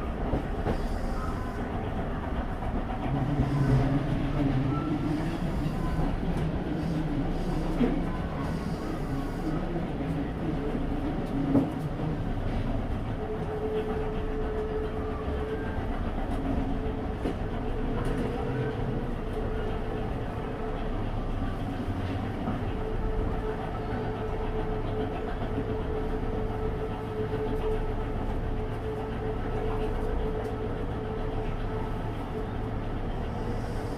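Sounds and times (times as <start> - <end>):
train rumbling: 0.0 - 33.9.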